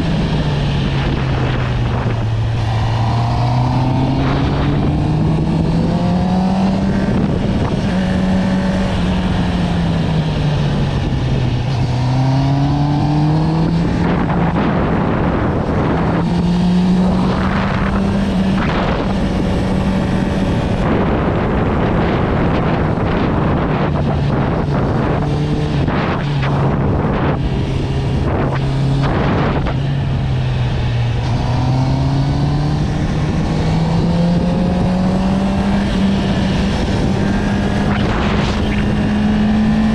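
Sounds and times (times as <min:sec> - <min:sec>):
rushing air noise: 0:00.0 - 0:12.1, 0:12.8 - 0:39.9
motorcycle engine revving: 0:00.0 - 0:39.9.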